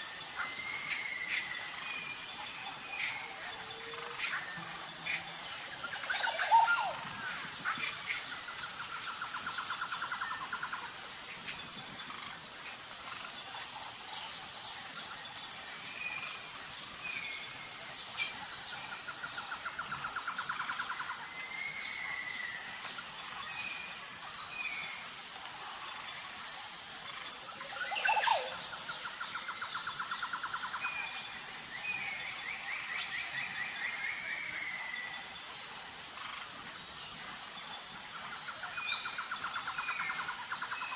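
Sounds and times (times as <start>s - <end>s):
pulsing insect chorus: 0.0s - 40.9s.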